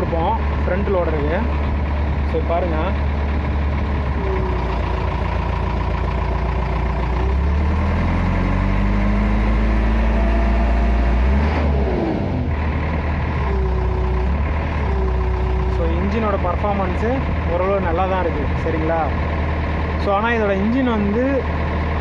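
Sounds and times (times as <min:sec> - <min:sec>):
diesel engine revving under load: 0:00.0 - 0:22.0.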